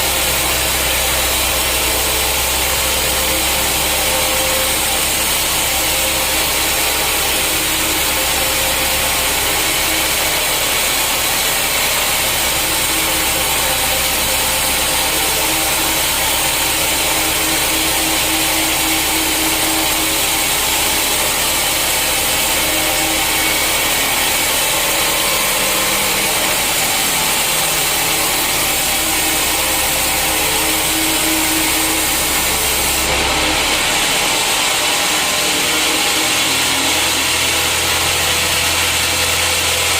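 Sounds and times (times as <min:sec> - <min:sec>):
low machine hum: 0:00.0 - 0:39.9
saw cutting wood: 0:00.0 - 0:39.9.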